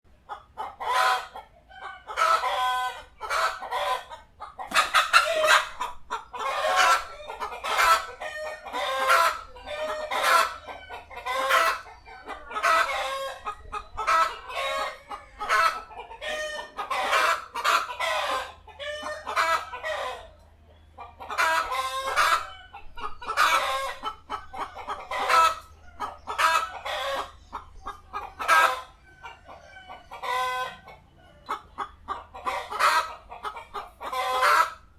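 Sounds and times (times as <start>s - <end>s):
chicken clucking and cackling: 0.1s - 34.9s.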